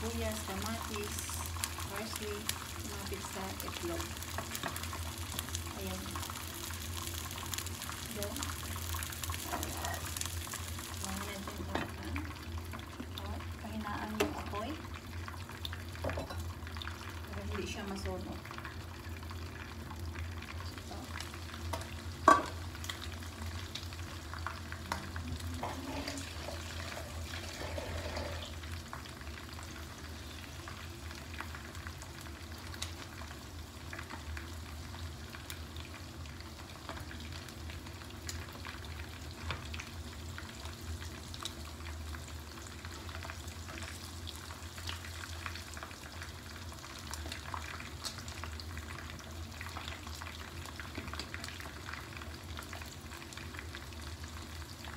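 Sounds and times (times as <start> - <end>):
low steady hum: 0.0 - 47.6
fish sizzling in oil: 0.0 - 54.9.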